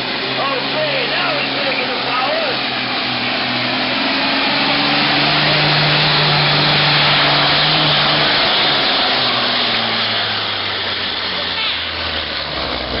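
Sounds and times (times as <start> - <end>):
diesel truck engine at full power: 0.0 - 13.0.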